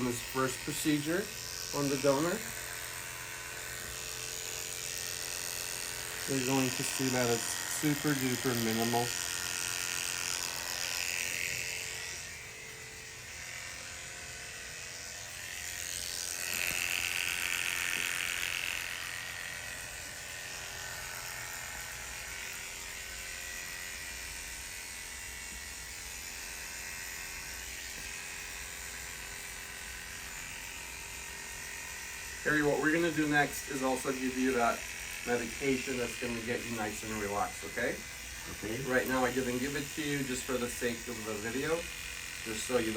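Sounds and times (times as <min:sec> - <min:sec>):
electric hair clippers buzzing: 0:00.0 - 0:42.9.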